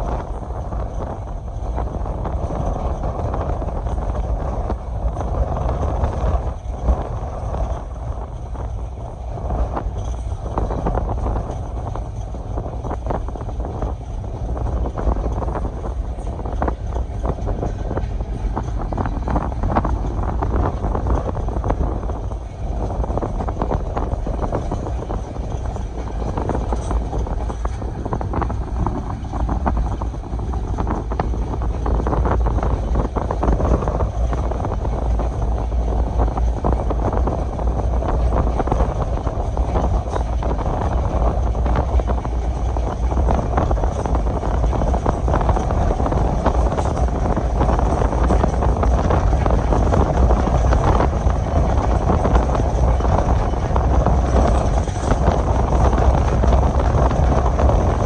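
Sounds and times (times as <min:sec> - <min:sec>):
train rumbling and clattering: 0:00.0 - 0:58.0
wind buffeting microphone: 0:00.0 - 0:58.0.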